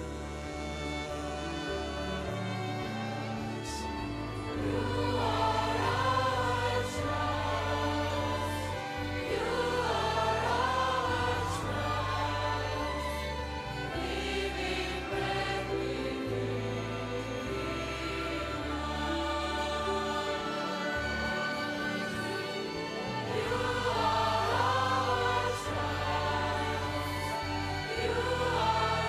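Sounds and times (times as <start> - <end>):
choir singing: 0.0 - 29.0
orchestral violins and bass: 0.0 - 29.0.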